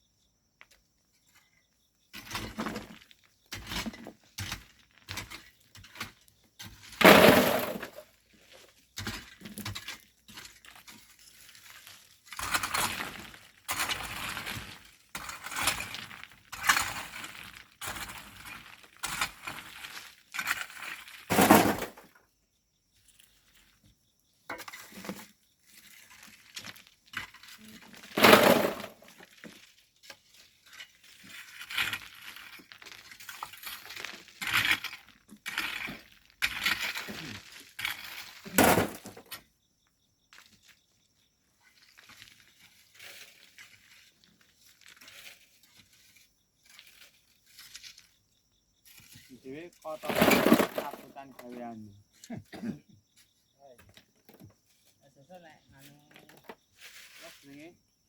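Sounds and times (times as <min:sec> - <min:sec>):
sand and stones clattering: 0:02.1 - 0:22.2, 0:23.0 - 0:52.7, 0:53.7 - 0:57.8.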